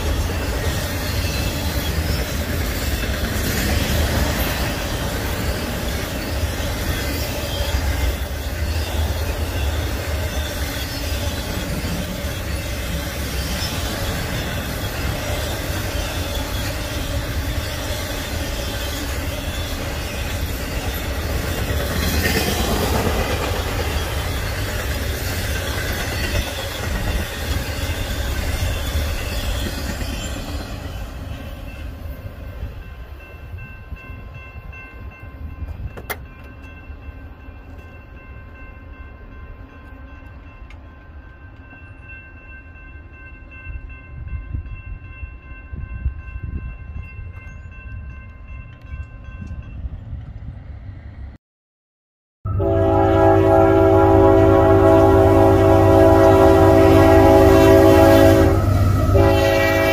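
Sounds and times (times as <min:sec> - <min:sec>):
crossing warning bell ringing: 0:00.0 - 0:50.0, 0:52.5 - 0:59.9
freight train rumbling past: 0:00.0 - 0:51.4, 0:52.5 - 0:59.9.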